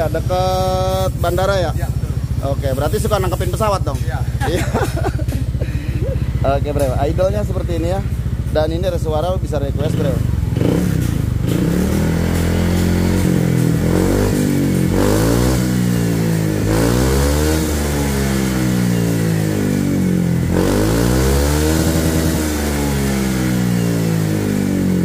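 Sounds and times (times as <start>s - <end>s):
scooter engine revving: 0.0s - 25.0s.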